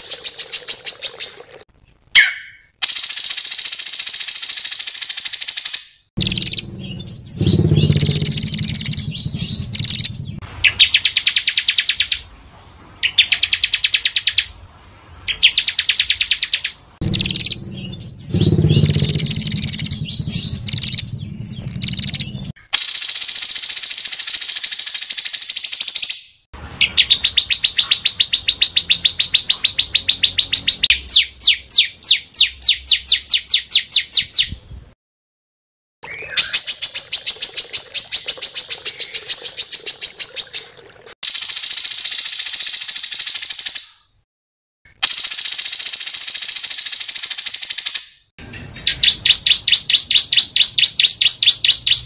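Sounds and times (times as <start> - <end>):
small songbird singing: 0.0 - 1.6, 2.2 - 12.2, 15.3 - 34.6, 36.0 - 44.1, 48.7 - 52.0.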